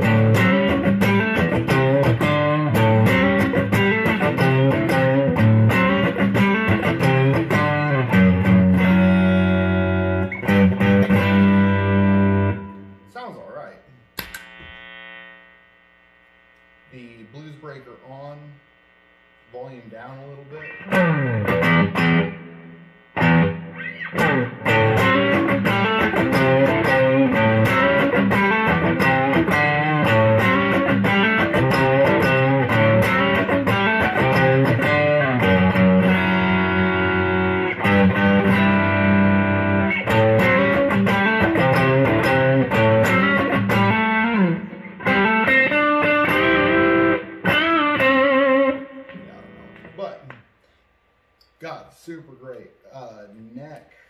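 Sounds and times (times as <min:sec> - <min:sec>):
overdriven electric guitar playing: 0:00.0 - 0:13.1, 0:18.7 - 0:50.2.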